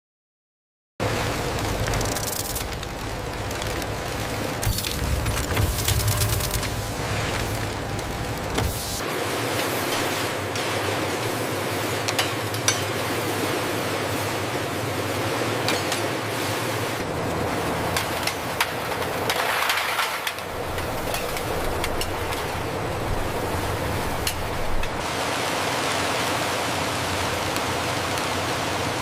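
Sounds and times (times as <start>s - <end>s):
factory machinery humming: 1.0s - 29.0s.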